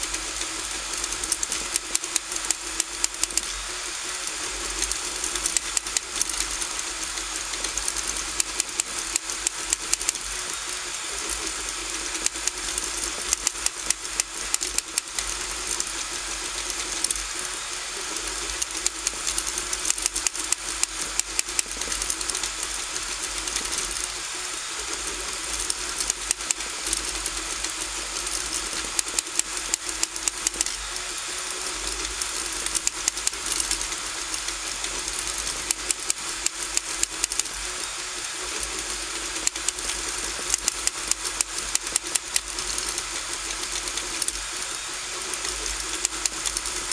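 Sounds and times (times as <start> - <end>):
printer motor hum and hiss: 0.0 - 46.9
rapid clicking and rattling: 0.0 - 46.9.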